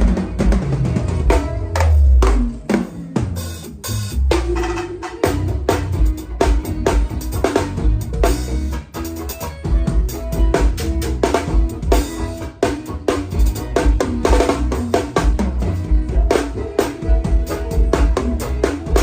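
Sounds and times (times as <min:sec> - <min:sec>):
band instruments playing: 0:00.0 - 0:19.0
drum kit playing steady beat: 0:00.0 - 0:19.0.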